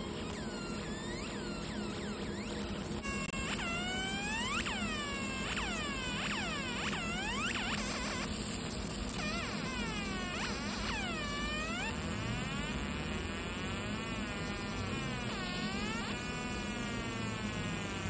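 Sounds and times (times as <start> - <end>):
laser scanner buzzing whine: 0.0 - 18.0
steady low hum: 0.0 - 18.0.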